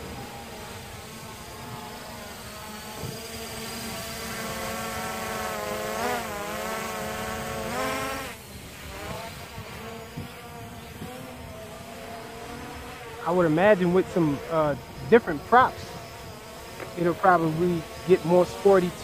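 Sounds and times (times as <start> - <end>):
drone motors buzzing: 0.0 - 19.0.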